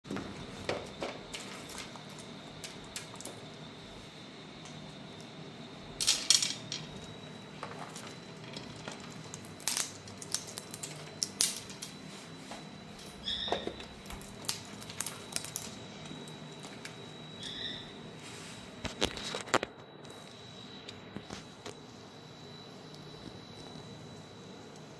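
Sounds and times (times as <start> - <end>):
faint high whine: 0.1 - 24.9.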